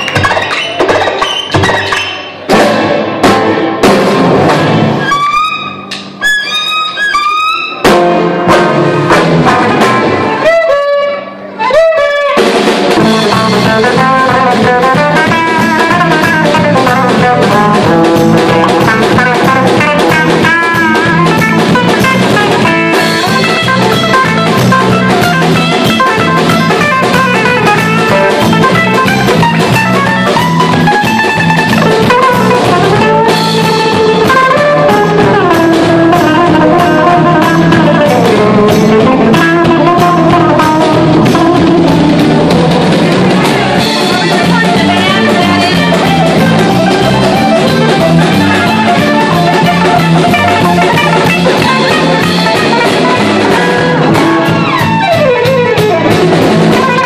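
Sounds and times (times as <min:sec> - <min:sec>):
drum kit: 0:00.0 - 0:57.0
electric guitar: 0:00.0 - 0:57.0
live band playing: 0:00.0 - 0:57.0
sliding lead melody: 0:00.0 - 0:57.0
fiddle: 0:05.0 - 0:07.9, 0:09.6 - 0:57.0.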